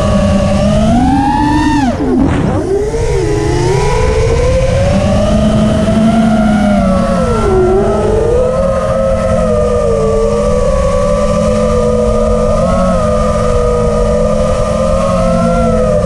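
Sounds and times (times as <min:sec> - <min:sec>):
low rushing noise: 0:00.0 - 0:14.4
quadcopter motors whining: 0:00.0 - 0:16.0.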